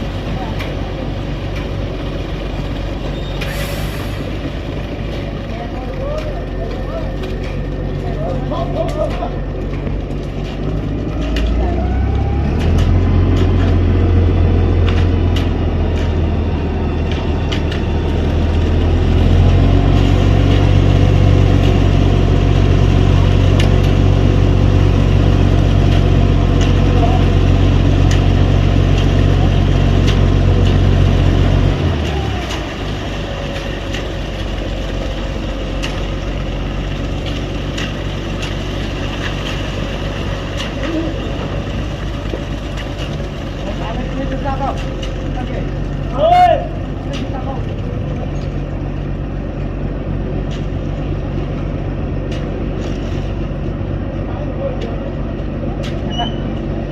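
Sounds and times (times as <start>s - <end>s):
large engine running: 0.0s - 56.9s.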